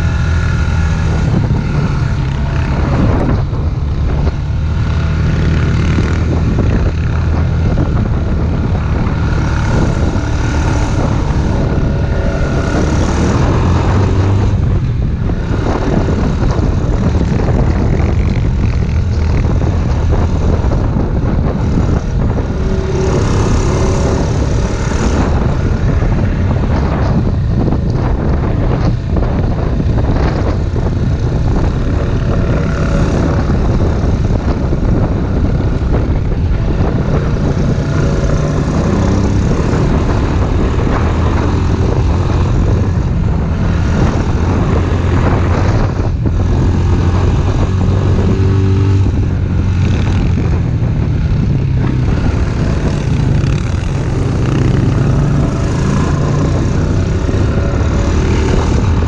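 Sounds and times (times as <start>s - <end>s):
vehicle engine running: 0.0s - 59.0s
wind on microphone: 0.0s - 59.0s.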